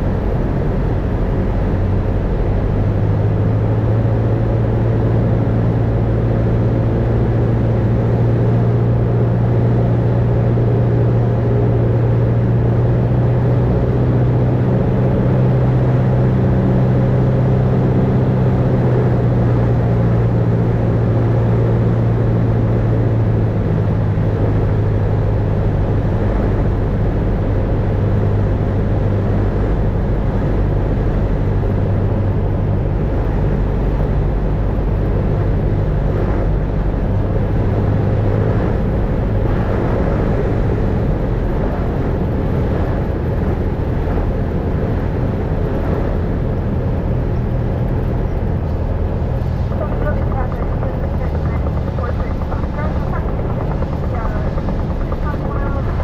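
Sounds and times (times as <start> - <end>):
airplane engine drone in cockpit: 0.0 - 56.0.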